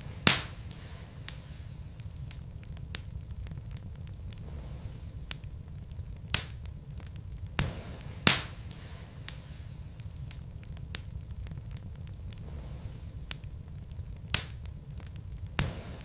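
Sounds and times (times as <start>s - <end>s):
logs crackling in fire: 0.0s - 16.0s
low fire rumble: 0.0s - 16.0s
sharp pops of fire: 0.0s - 16.0s.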